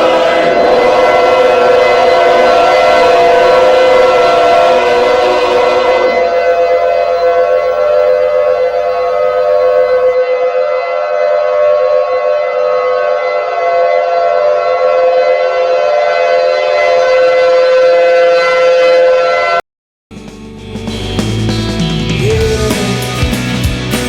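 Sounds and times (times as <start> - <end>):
civil defense siren steady tone: 0.0 - 19.6.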